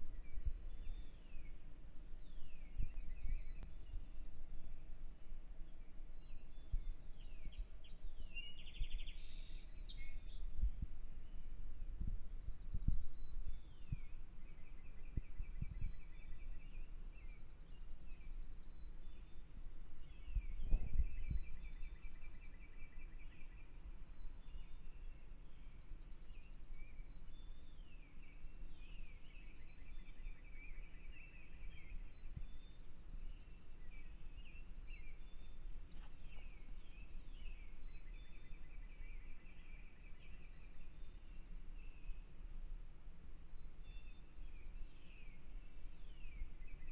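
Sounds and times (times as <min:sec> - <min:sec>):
songbirds trilling: 0:00.0 - 0:46.9.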